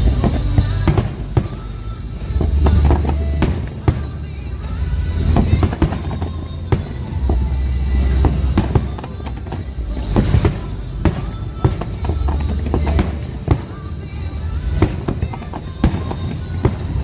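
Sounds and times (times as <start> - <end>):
deep rumbling fireworks booms: 0.0 - 17.0
fireworks sharp bangs: 0.0 - 17.0
music: 0.0 - 17.0.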